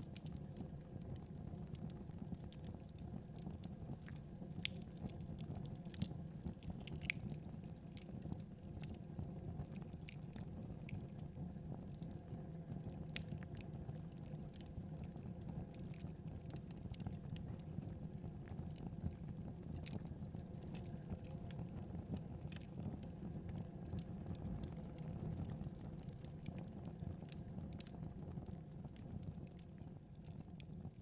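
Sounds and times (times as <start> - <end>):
wood fire crackling and popping: 0.0 - 11.3, 11.9 - 30.9.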